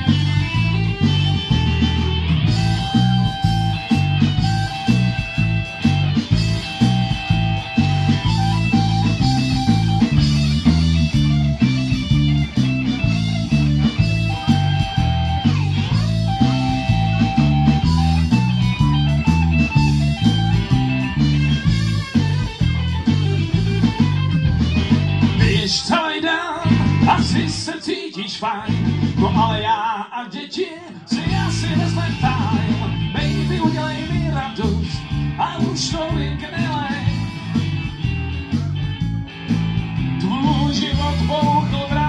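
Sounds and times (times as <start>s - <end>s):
repeating bass line: 0.0s - 25.8s, 26.6s - 27.7s, 28.7s - 29.6s, 31.2s - 42.0s
electric guitar: 0.0s - 29.7s, 31.0s - 42.0s
drums: 0.0s - 42.0s.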